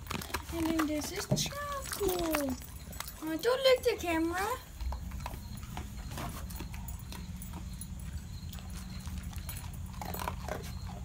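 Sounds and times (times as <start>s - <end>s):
dog crunching kibble: 0.0s - 11.0s.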